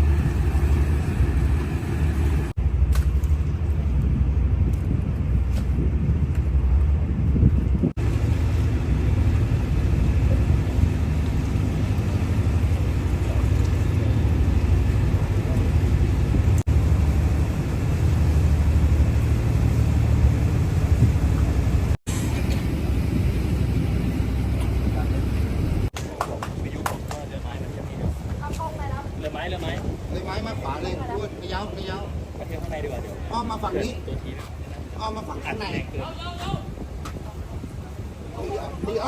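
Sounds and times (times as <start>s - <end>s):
boat engine rumbling: 0.0s - 39.0s
water noise: 0.0s - 39.0s
wind: 0.0s - 39.0s.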